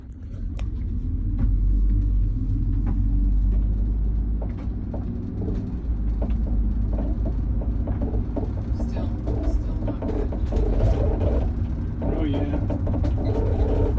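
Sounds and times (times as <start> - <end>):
van road and drivetrain rumble: 0.0 - 13.9
faint ticks and scrapes: 0.4 - 13.9.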